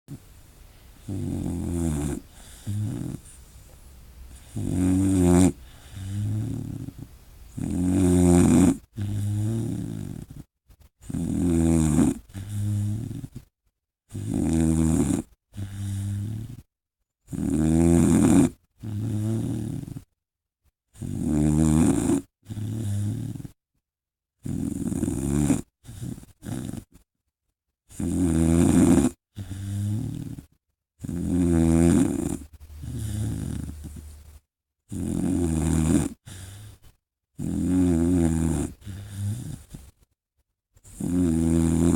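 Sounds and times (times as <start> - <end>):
puppy snoring loudly: 1.0 - 13.5, 14.1 - 20.1, 20.9 - 23.6, 24.4 - 27.0, 27.9 - 40.1, 40.8 - 41.9.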